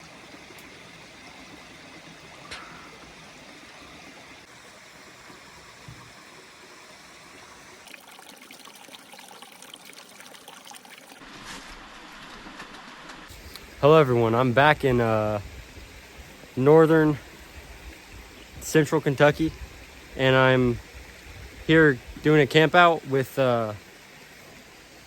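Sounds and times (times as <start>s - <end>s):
creek trickling: 0.0s - 25.0s.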